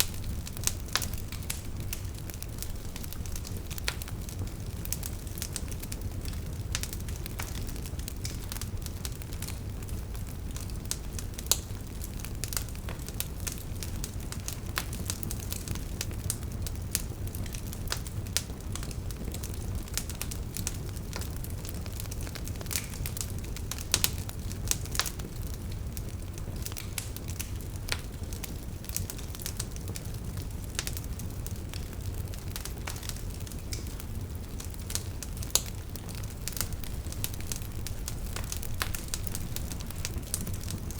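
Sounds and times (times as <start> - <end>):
burning logs crackling and popping: 0.0 - 40.9
flames rumbling: 0.0 - 40.9.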